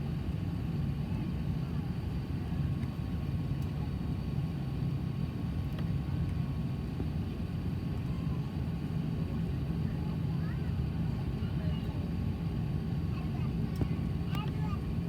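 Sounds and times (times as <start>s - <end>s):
jet engines rumbling in cabin: 0.0s - 15.0s.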